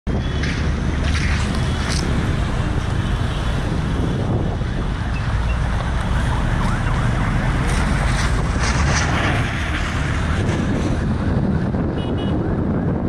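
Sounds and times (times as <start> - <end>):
street traffic: 0.0 - 13.0
wind rumble on microphone: 0.1 - 13.0.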